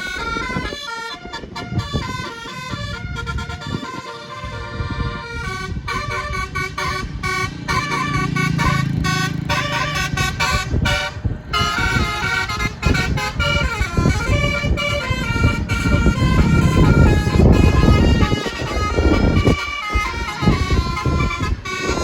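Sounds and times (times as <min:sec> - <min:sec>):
multi-tone bus horn tune: 0:00.0 - 0:22.0.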